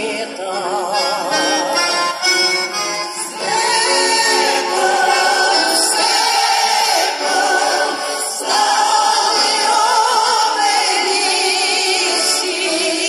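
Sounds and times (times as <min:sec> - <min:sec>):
women's choir singing: 0:00.0 - 0:13.0.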